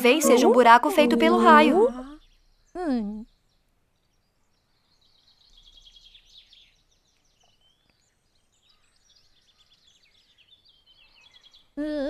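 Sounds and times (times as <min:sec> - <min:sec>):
faint birdsong trills: 0:00.0 - 0:12.0.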